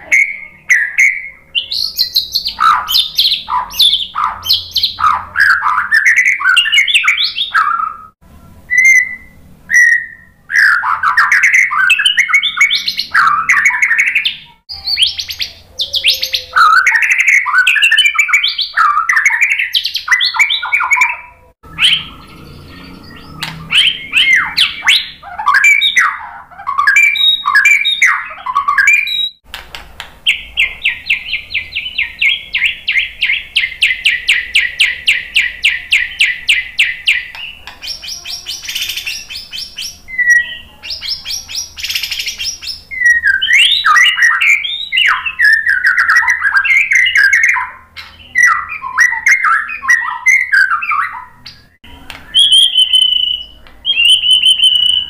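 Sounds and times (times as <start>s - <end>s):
bird singing whistled phrases: 0.0s - 8.1s, 8.7s - 29.4s, 30.3s - 55.0s.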